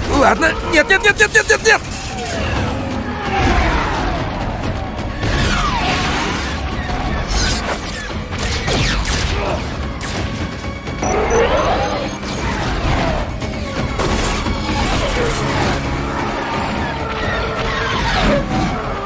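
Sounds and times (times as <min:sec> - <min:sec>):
action film music: 0:00.0 - 0:19.0.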